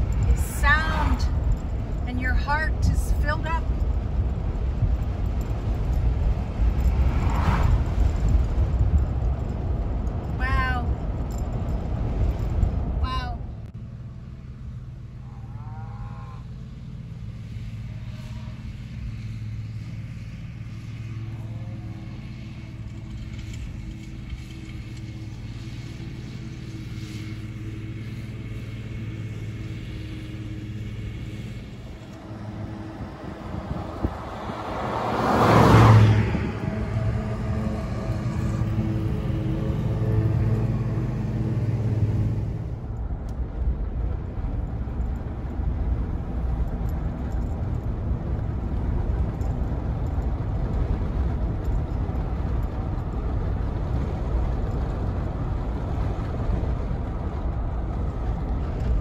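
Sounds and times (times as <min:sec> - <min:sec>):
car engine hum: 0:00.0 - 0:59.0
road and wind noise: 0:00.0 - 0:59.0.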